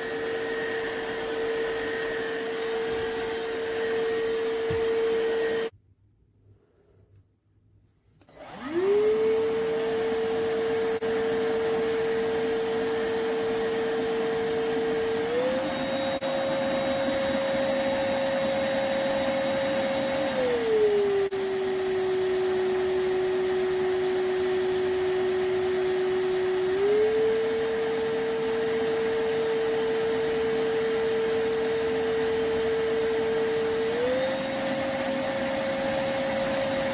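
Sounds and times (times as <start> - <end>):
stick vacuum motor whine: 0.0 - 5.7, 8.2 - 36.9.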